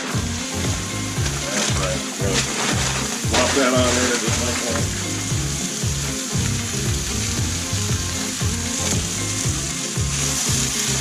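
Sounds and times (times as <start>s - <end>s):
background music with bass line: 0.0s - 11.0s
steak sizzling on a griddle: 0.0s - 11.0s.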